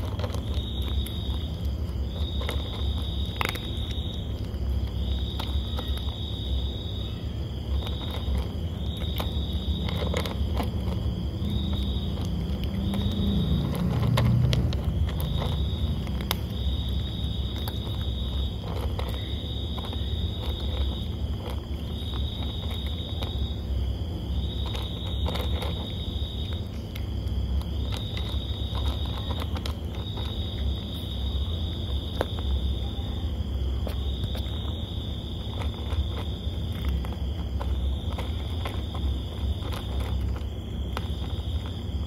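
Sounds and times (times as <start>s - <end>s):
cat crunching dry kibble: 0.0s - 42.0s.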